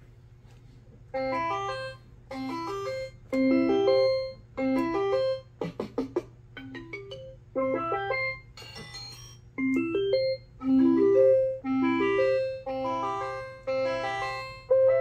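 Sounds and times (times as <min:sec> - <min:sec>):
toy keyboard note runs: 0:01.2 - 0:05.6, 0:06.6 - 0:15.0.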